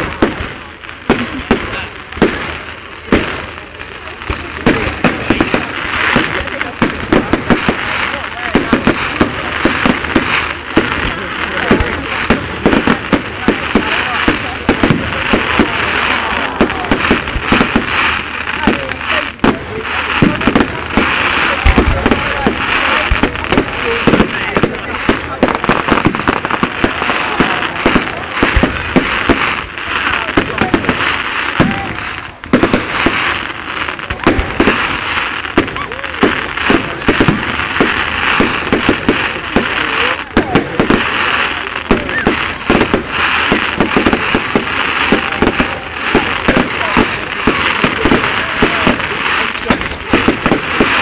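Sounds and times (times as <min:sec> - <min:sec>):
continuous hiss: 0:00.0 - 0:51.0
fireworks bangs and crackles: 0:00.0 - 0:51.0.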